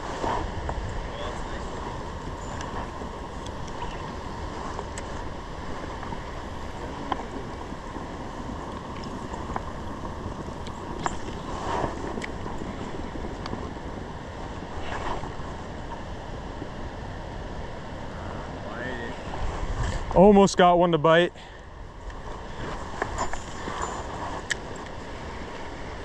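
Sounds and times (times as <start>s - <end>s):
flowing water rushing: 0.0s - 21.3s.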